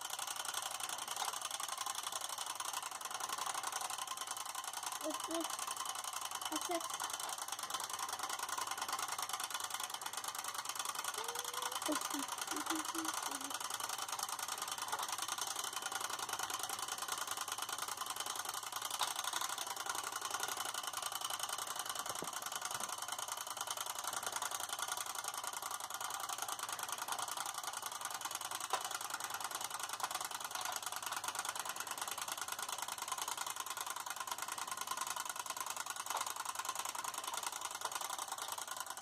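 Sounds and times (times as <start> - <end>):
clockwork timer ticking rapidly: 0.0 - 39.0.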